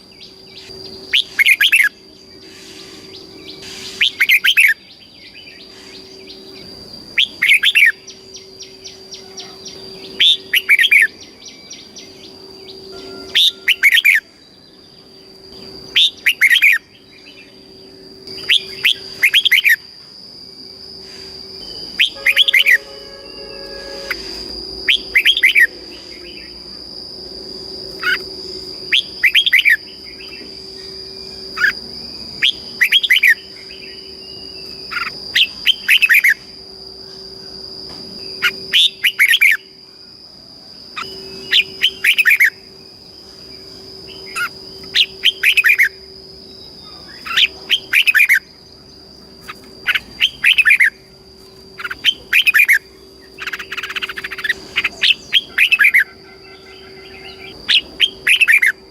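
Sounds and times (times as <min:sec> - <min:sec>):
bulbul whistled song: 0:00.0 - 0:15.0, 0:15.9 - 0:19.8, 0:21.6 - 0:26.6, 0:28.0 - 0:36.4, 0:38.3 - 0:39.8, 0:41.0 - 0:42.8, 0:43.5 - 0:48.5, 0:49.5 - 0:51.1, 0:51.8 - 0:58.9.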